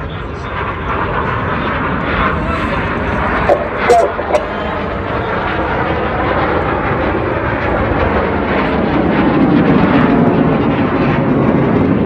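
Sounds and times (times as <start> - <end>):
jets flying past: 0.6 - 12.0.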